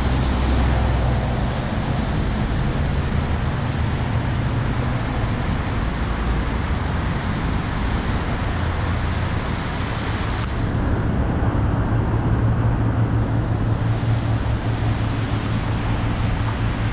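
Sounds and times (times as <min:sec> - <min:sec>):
low drone: 0:00.0 - 0:16.9
road traffic rumble and hiss: 0:00.0 - 0:16.9.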